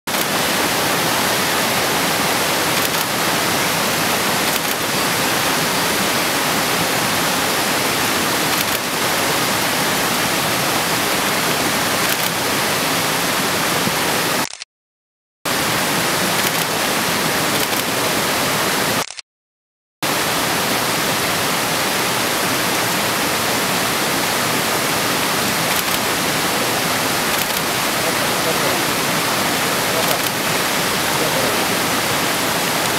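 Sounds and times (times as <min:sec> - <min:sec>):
mountain stream rushing: 0:00.1 - 0:14.6, 0:15.5 - 0:19.2, 0:20.0 - 0:32.9.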